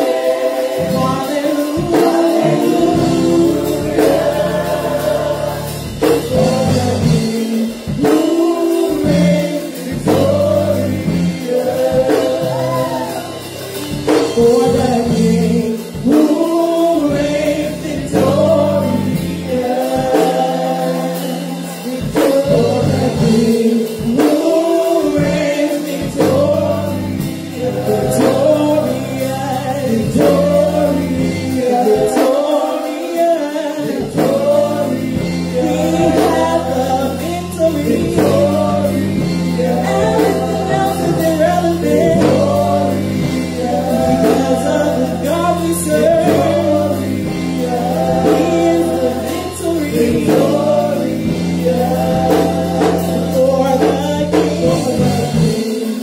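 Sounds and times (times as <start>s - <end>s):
bass notes: 0.0s - 32.6s, 33.8s - 55.6s
keyboard chords: 0.0s - 56.0s
steady beat: 0.0s - 56.0s
women singing gospel: 0.0s - 56.0s.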